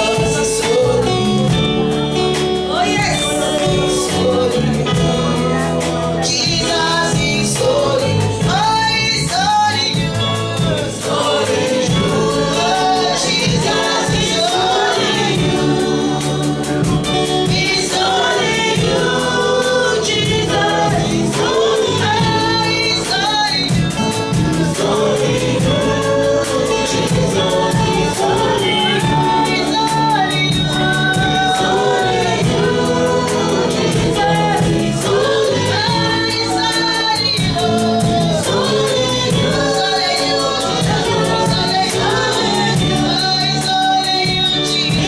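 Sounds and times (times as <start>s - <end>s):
band accompaniment with beat: 0.0s - 45.0s
gospel choir singing: 0.0s - 45.0s.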